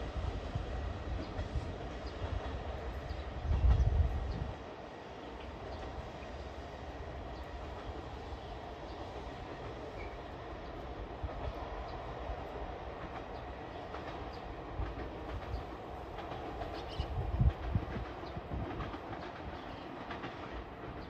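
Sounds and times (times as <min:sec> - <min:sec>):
train wheels clacking on rails: 0:00.0 - 0:21.0.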